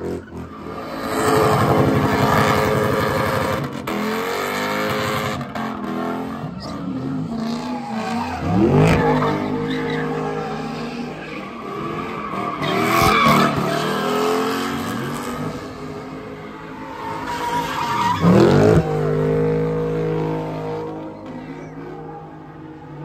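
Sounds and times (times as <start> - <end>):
car engine revving: 0.0 - 23.0
tires squealing: 0.0 - 23.0.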